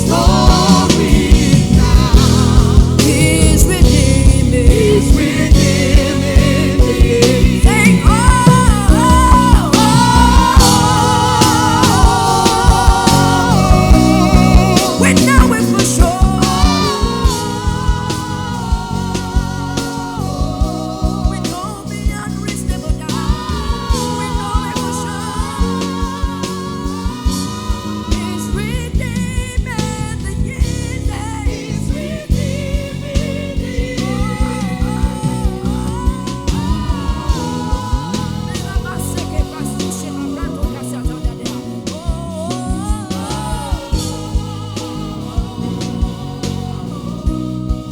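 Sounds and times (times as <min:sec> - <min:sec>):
bass: 0:00.0 - 0:47.9
keyboard: 0:00.0 - 0:47.9
person singing with vibrato: 0:00.0 - 0:47.9
steady drum beat: 0:00.0 - 0:47.9.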